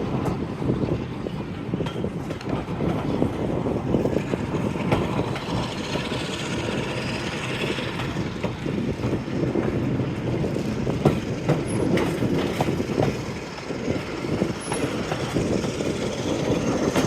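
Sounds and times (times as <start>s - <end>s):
clicks of train wheels: 0.0s - 17.0s
train wheels rumbling on rails: 0.0s - 17.0s.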